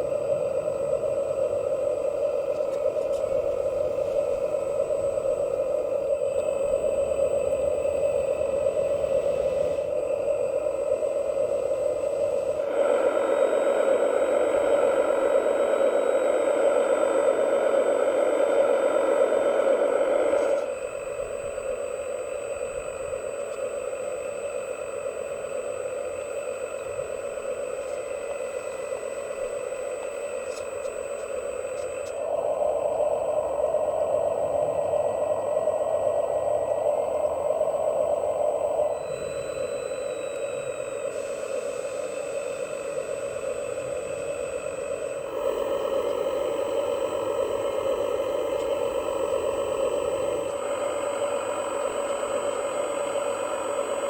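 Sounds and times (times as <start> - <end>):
model truck motor humming: 0.0 - 54.0.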